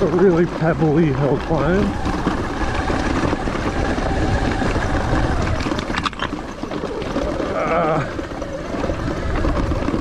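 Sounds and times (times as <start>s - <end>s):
sharp clatter: 0.0s - 10.0s
tyres churning over stones: 0.0s - 10.0s.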